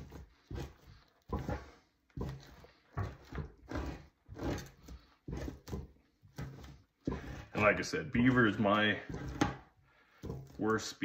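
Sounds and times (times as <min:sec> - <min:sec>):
knife scraping hide: 0:00.0 - 0:11.0.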